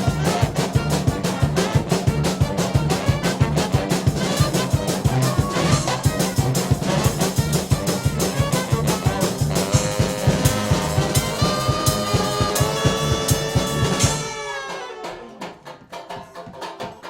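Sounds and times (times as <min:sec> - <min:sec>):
brass band playing: 0:00.0 - 0:15.7
drums: 0:00.0 - 0:17.0.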